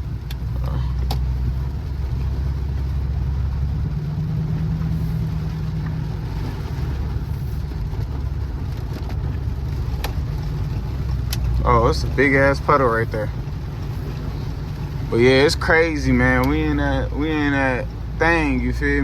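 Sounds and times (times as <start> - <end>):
car engine drone: 0.0 - 19.0
tyre noise on wet road: 0.0 - 19.0.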